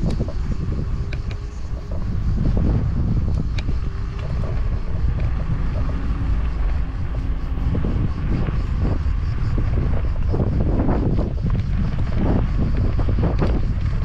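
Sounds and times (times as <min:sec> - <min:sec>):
faint steady hum: 0:00.0 - 0:14.0
wind noise on microphone: 0:00.0 - 0:14.0.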